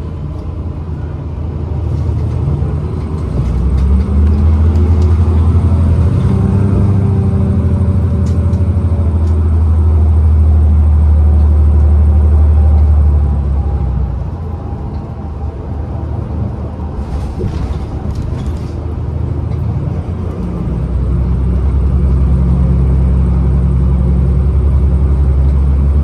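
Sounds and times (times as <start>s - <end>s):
bus engine hum: 0.0s - 26.0s
rising drivetrain whine: 0.0s - 26.0s.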